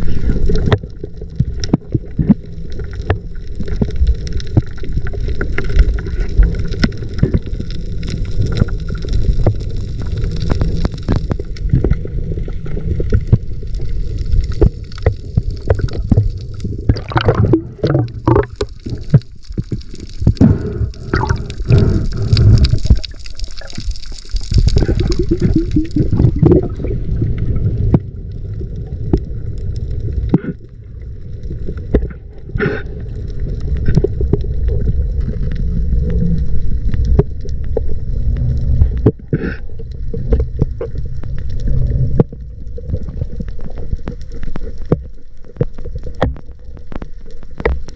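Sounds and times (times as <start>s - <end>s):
low rumble: 0.0s - 47.9s
water bubbling: 0.0s - 47.9s
water gurgling and sloshing: 0.0s - 47.9s.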